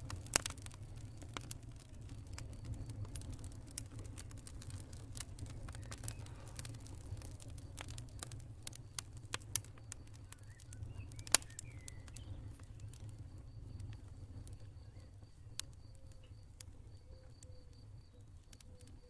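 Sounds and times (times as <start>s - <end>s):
low steady rumble: 0.0s - 18.4s
campfire crackling and popping: 0.0s - 19.0s
faint cricket chirping: 0.0s - 19.0s.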